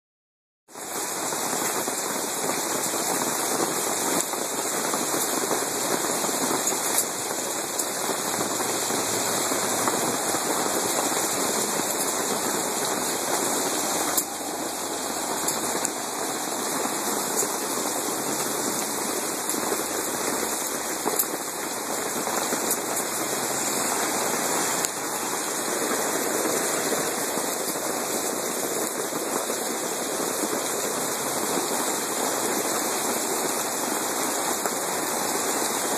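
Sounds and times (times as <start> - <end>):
hailstones ticking: 0.7 - 35.9
heavy rain on wet pavement: 0.7 - 35.9.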